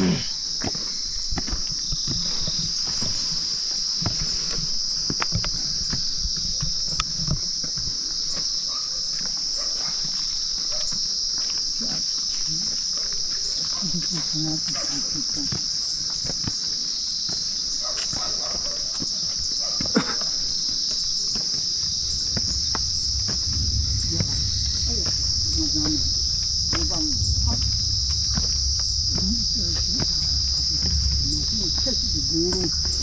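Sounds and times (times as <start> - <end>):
insects chirping: 0.0 - 33.0
footsteps on paved path: 0.4 - 33.0.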